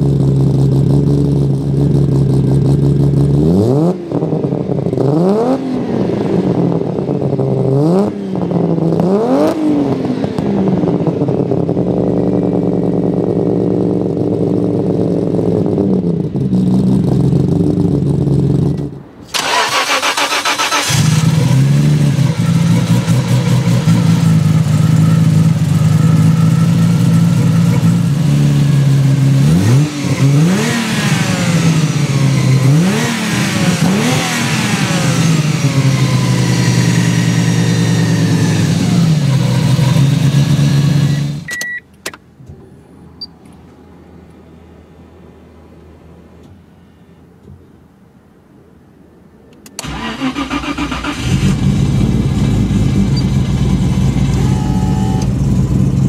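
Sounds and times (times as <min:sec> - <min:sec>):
car engine idling and revving: 0:00.0 - 0:49.0, 0:49.6 - 0:56.0.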